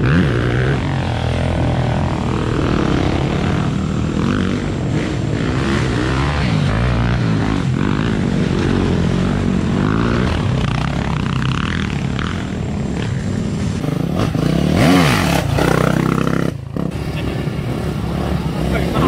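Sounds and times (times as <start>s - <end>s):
dirt bike engine running: 0.0s - 19.0s
other dirt bikes running: 0.0s - 19.0s.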